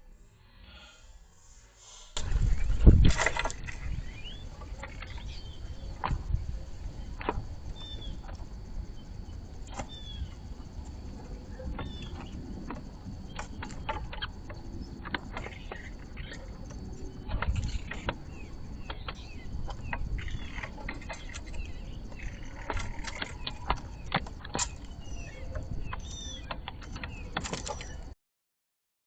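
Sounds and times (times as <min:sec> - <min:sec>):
bird calls: 0:01.9 - 0:10.5, 0:11.2 - 0:28.1.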